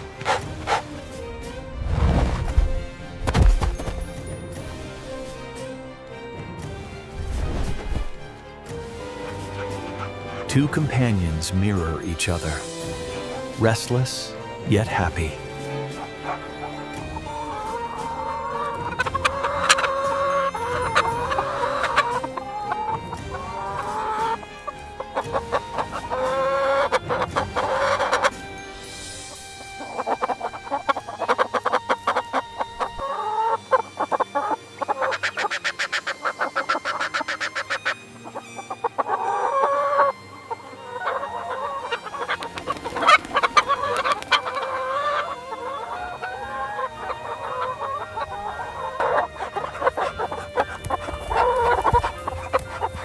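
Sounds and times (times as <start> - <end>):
chickens clucking and cackling: 0.0 - 53.0.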